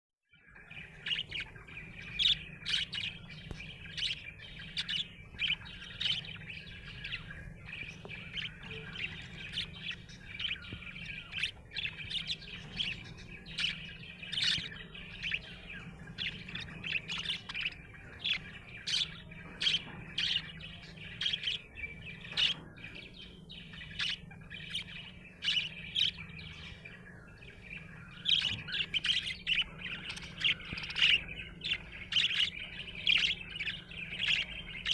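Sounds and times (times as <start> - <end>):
budgerigar chirping: 0.5 - 34.9.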